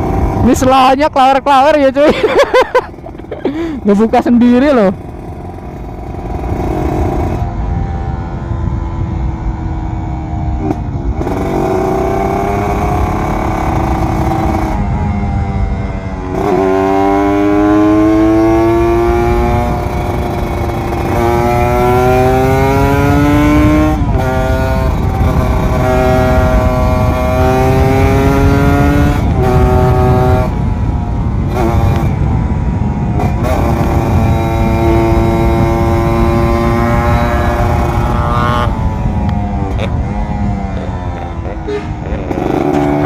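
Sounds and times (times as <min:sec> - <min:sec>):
motorcycle engine accelerating: 0:00.0 - 0:43.0
wind rush: 0:00.0 - 0:43.0.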